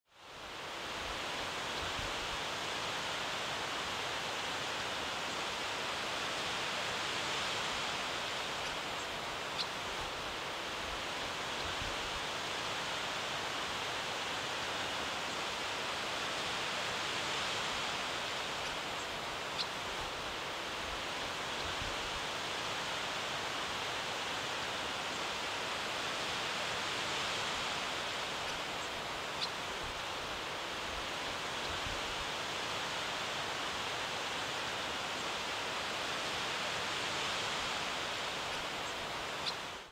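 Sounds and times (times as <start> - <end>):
wind through conifer branches: 0.0 - 39.9.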